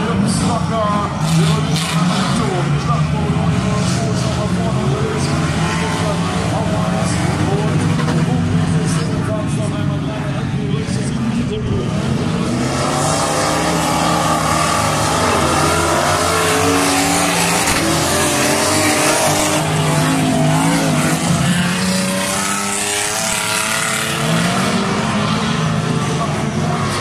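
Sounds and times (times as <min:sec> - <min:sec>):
racing car engines revving: 0:00.0 - 0:27.0.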